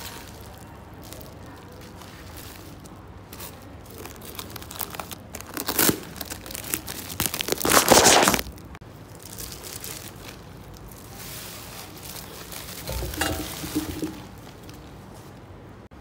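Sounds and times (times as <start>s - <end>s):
bubble wrap crinkling: 0.0s - 15.6s
plastic rustling: 0.0s - 15.7s.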